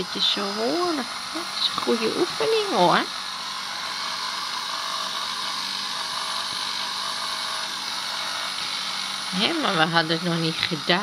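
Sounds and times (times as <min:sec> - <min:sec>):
power tool whirring hiss: 0:00.0 - 0:11.0.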